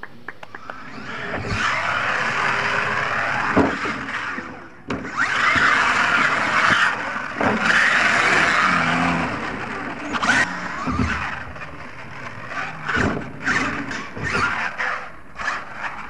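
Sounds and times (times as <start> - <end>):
rc truck motor whining: 0.4 - 16.0
tyres churning dirt: 1.0 - 16.0.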